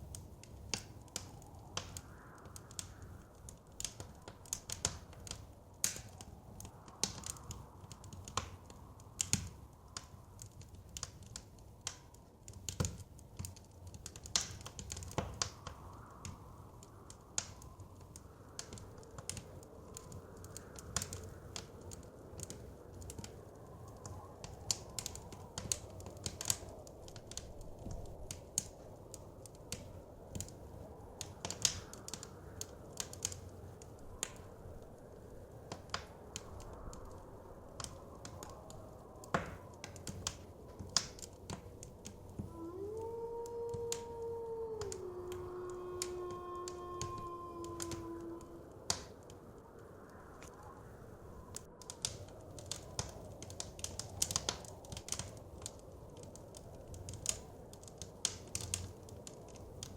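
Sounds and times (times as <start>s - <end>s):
soft blizzard wind: 0.0s - 59.9s
wood fire crackling: 0.0s - 59.9s.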